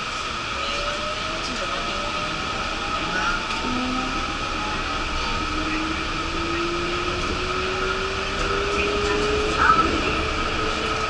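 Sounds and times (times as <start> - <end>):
rising whine: 0.0 - 11.0
train tyres rolling on concrete: 0.0 - 11.0.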